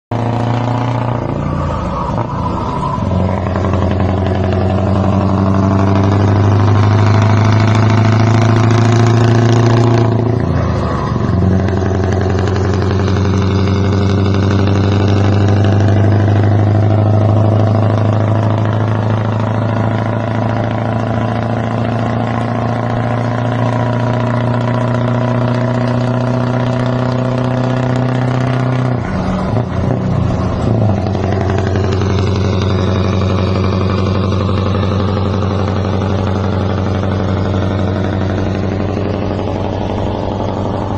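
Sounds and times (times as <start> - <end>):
diesel truck engine running: 0.1 - 40.9.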